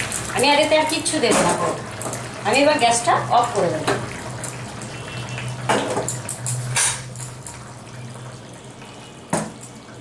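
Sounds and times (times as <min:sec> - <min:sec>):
curry bubbling in a pan: 0:00.0 - 0:10.0.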